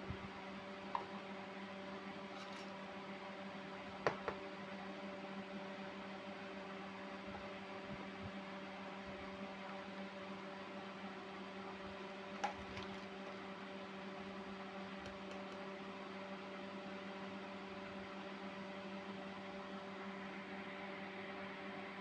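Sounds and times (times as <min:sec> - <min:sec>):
low hum with overtones: 0:00.0 - 0:22.0.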